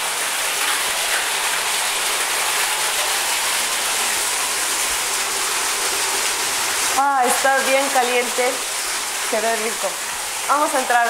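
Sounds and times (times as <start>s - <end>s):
water pouring into rock bath: 0.0s - 11.0s.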